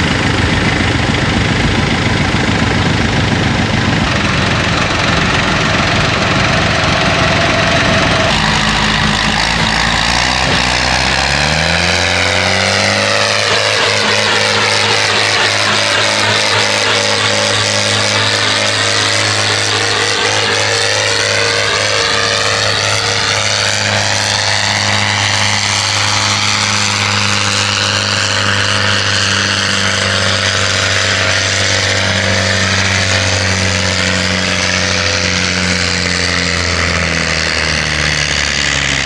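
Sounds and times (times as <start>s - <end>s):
high whine gliding in pitch: 0.0s - 39.0s
tractor engine running at high revs: 0.0s - 39.0s.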